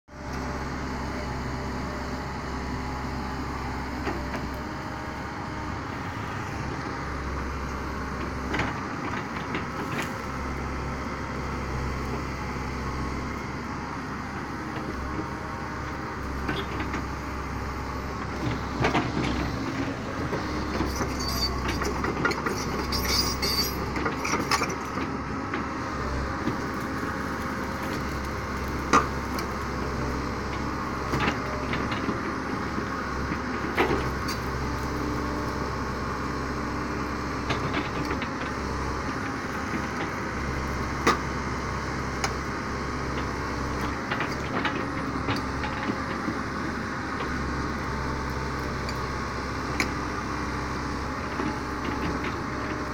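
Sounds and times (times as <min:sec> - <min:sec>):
excavator diesel engine: 0:00.1 - 0:52.9.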